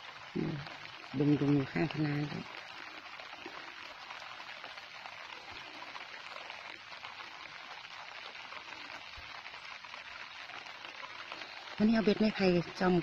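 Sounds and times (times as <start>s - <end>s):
light rain on water and grass: 0.0s - 13.0s.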